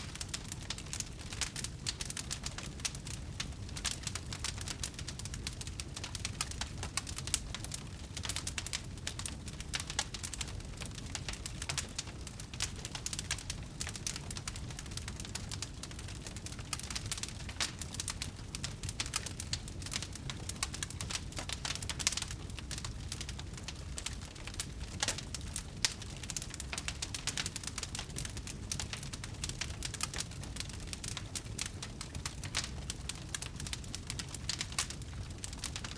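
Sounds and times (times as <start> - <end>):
wood fire crackling in fireplace: 0.0 - 35.9.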